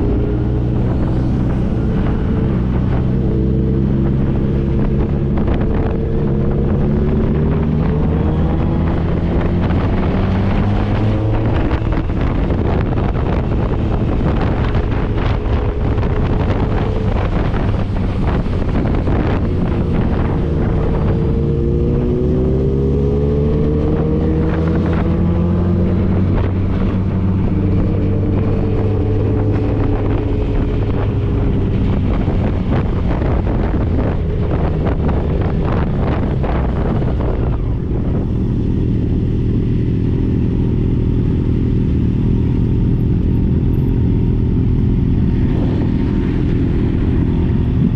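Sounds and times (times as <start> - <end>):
motorcycle engine revving: 0.0 - 47.9
wind rush on microphone: 0.0 - 47.9.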